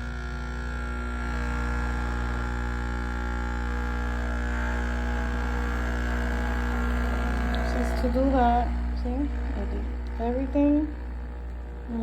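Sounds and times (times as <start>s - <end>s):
coffee machine humming and buzzing: 0.0s - 12.0s.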